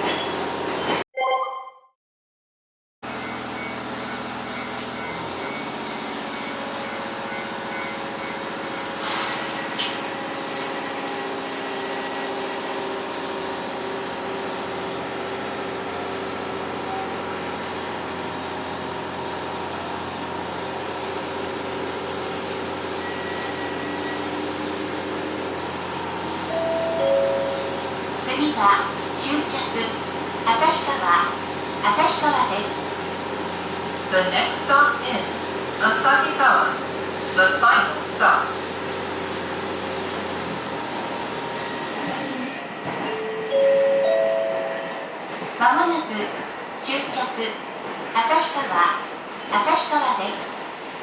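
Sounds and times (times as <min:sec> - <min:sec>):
railcar running hum: 0:00.0 - 0:01.0, 0:03.0 - 0:51.0.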